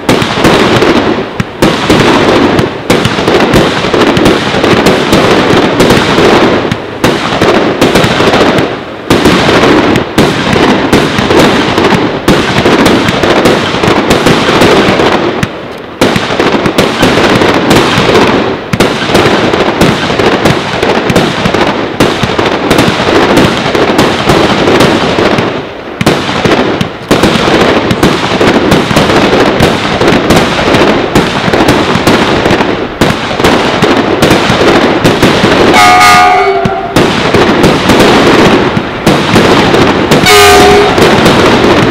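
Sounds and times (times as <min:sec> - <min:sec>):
firework shots and bursts: 0:00.0 - 0:41.9.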